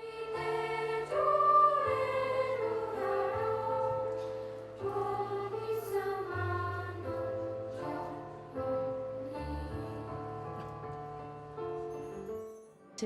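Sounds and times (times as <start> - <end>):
choir singing long notes: 0.0 - 10.7.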